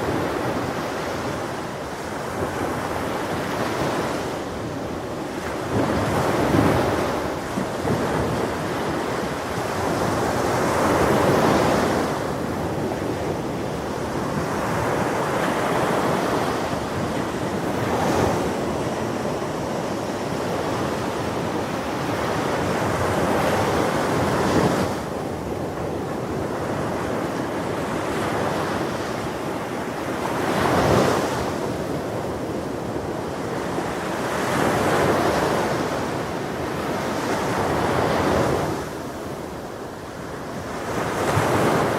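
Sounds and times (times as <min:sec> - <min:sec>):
ocean waves breaking: 0:00.0 - 0:41.9
wind on microphone: 0:00.0 - 0:41.9.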